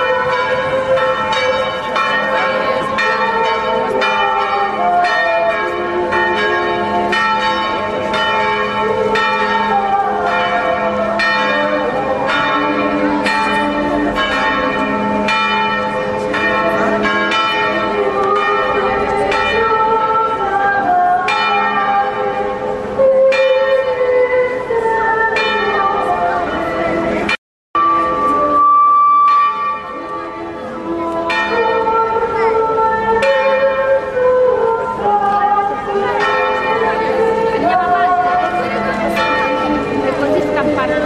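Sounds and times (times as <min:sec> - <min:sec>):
church bells pealing: 0:00.0 - 0:41.0.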